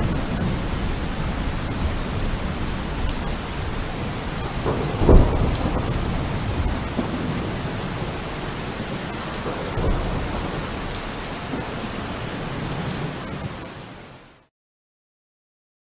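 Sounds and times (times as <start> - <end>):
thunder rumble: 0.0 - 13.4
steady rain: 0.0 - 14.5.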